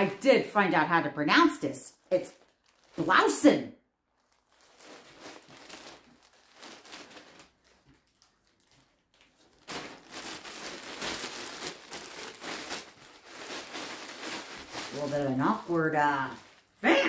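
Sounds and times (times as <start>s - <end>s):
plastic bag crinkling: 2.0s - 17.0s.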